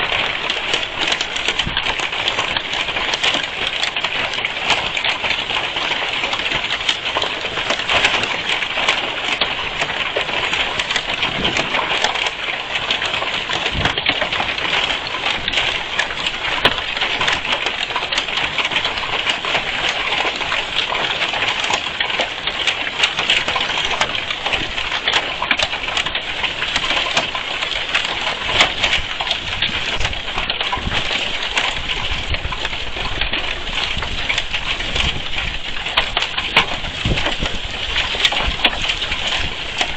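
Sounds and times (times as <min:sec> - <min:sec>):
hailstones pattering: 0:00.0 - 0:39.9
heavy rain: 0:00.0 - 0:39.9.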